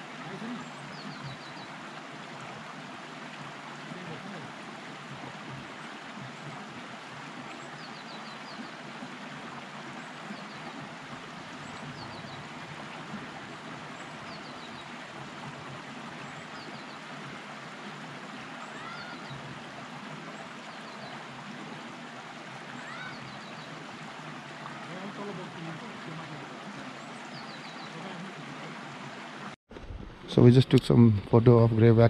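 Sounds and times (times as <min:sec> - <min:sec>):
stream rushing: 0:00.0 - 0:31.1.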